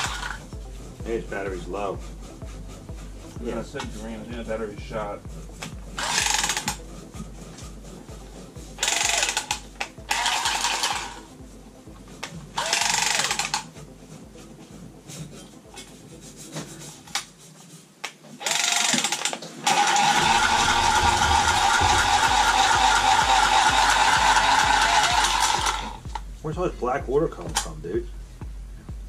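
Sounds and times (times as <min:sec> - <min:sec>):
pipe cutter whining and cutting: 0:00.0 - 0:17.4, 0:18.4 - 0:26.3.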